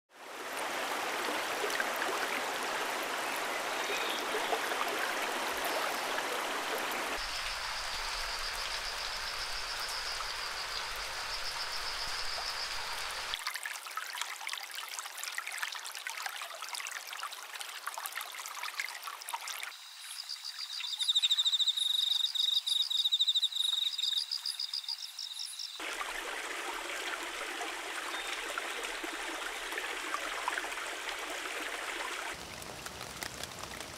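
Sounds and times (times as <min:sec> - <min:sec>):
stream of running water: 0:00.1 - 0:21.5, 0:23.8 - 0:33.9.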